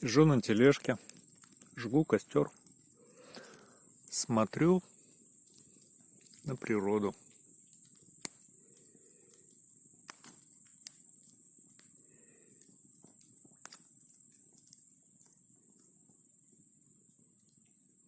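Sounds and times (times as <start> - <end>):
campfire crackling and popping: 0.0 - 18.0
insects chirring: 0.0 - 18.0.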